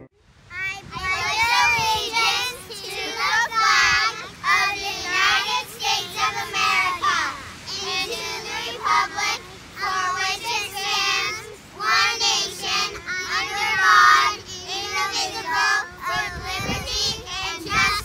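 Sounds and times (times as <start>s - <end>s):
child singing: 0.5s - 18.0s.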